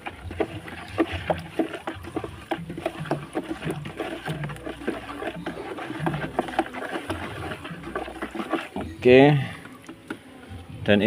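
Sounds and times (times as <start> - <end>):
water swishing in a plastic basin: 0.0 - 11.0.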